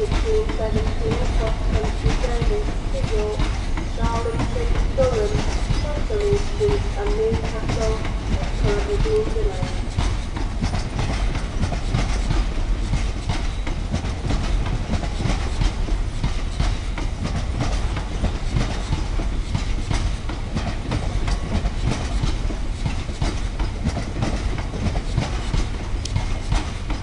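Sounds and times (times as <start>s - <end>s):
freight train passing: 0.0s - 27.0s
wheels clattering over rail joints: 0.0s - 27.0s.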